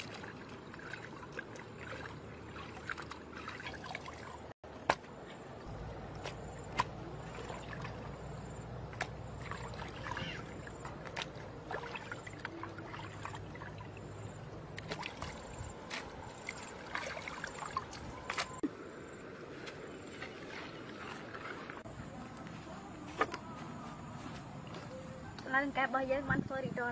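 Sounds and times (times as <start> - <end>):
water trickling and splashing: 0.0 - 23.6.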